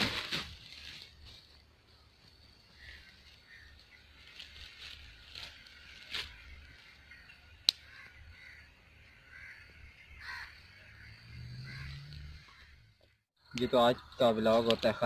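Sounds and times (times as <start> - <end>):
birds calling: 1.9 - 15.0.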